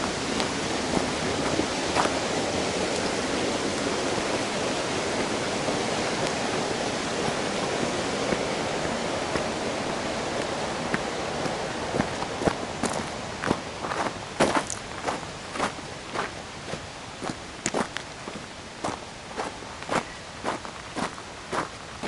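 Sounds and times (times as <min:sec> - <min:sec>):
faint footsteps on trail: 0:00.0 - 0:22.0
rushing stream water: 0:00.0 - 0:22.0.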